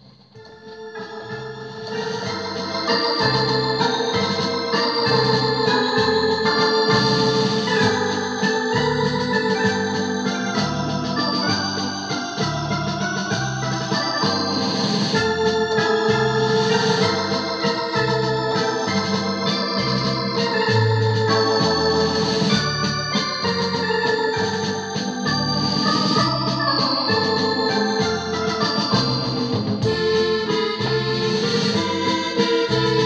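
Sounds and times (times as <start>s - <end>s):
keyboard organ melody: 0.0s - 33.0s
repeating bass line: 1.1s - 33.0s.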